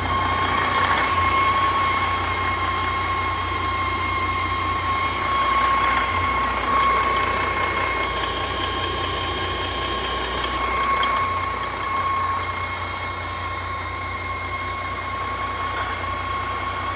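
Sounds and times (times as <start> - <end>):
high engine whine: 0.0 - 16.9.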